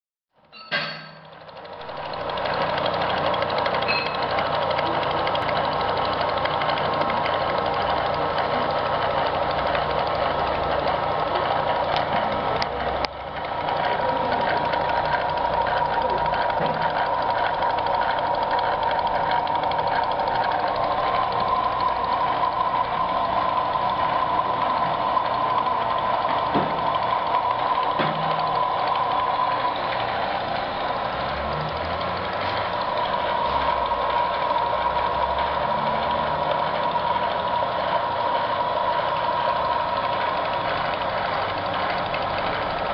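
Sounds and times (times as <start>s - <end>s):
milling machine cutting with whine: 1.2s - 42.9s.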